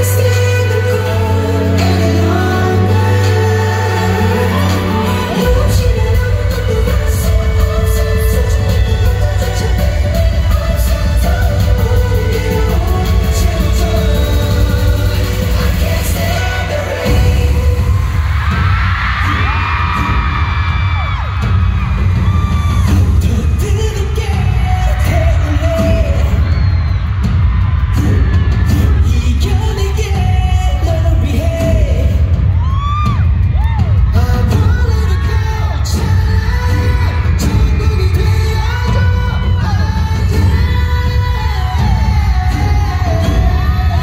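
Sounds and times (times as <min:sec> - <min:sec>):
several voices singing: 0:00.0 - 0:32.9, 0:34.1 - 0:44.0
booming bass beat: 0:00.0 - 0:44.0
pop song over concert speakers: 0:00.0 - 0:44.0.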